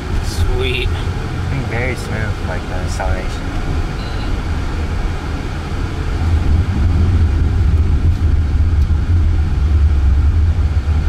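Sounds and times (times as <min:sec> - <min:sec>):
car road and tyre noise: 0:00.0 - 0:11.0.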